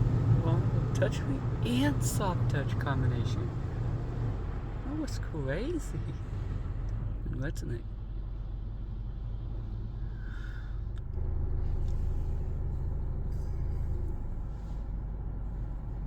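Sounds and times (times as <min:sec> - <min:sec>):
car wash machinery rumble: 0:00.0 - 0:16.0.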